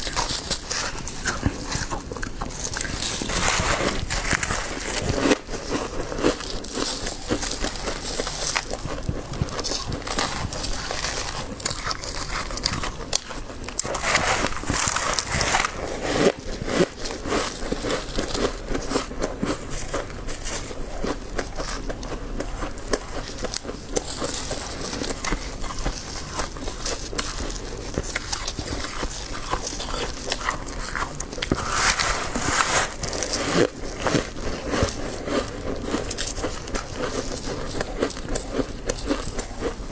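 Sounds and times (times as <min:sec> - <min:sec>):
frost being chewed crunching: 0:00.0 - 0:39.9.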